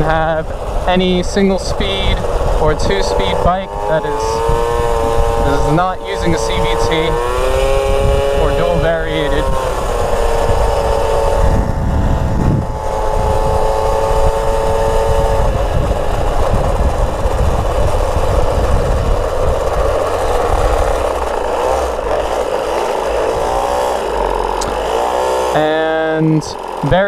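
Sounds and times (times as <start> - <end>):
two-stroke moped engine running: 0.0 - 27.0.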